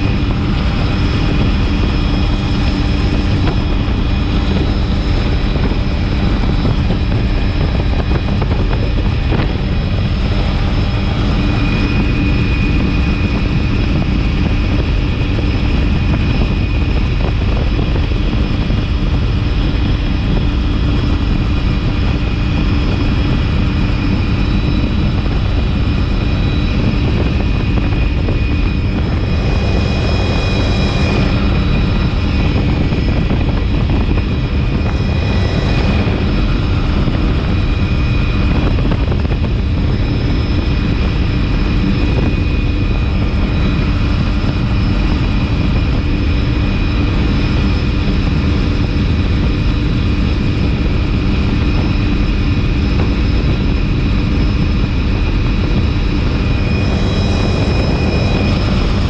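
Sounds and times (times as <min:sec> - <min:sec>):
helicopter rotor and engine noise: 0:00.0 - 0:59.0
high turbine whine: 0:00.0 - 0:59.0
rushing air: 0:00.0 - 0:59.0.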